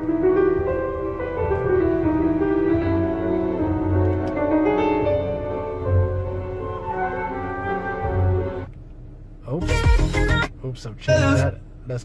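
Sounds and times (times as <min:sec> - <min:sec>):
classical music on car stereo: 0:00.0 - 0:12.0.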